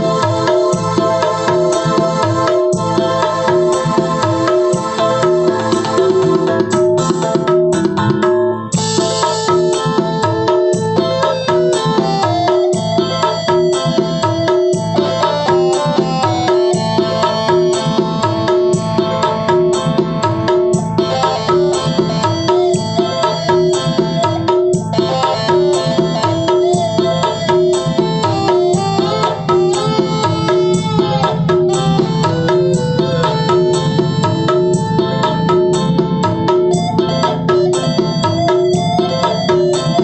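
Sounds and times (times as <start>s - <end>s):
music with steady drum beat: 0.0s - 40.0s.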